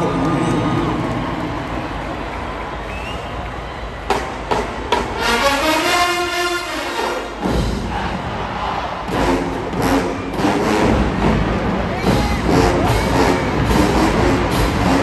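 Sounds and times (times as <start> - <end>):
stadium crowd noise: 0.0 - 15.0.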